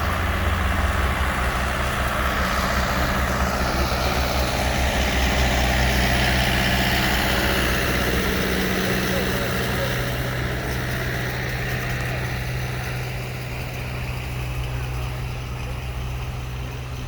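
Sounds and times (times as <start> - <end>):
concrete pump diesel engine running: 0.0 - 17.0.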